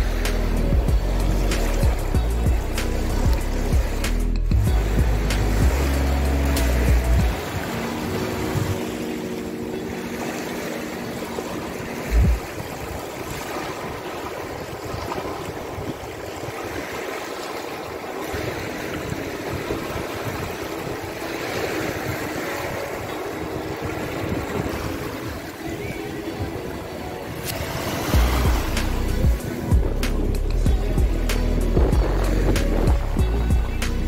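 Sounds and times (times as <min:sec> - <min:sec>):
sea surf washing onto beach: 0:00.0 - 0:34.0
wind buffeting microphone: 0:00.0 - 0:34.0.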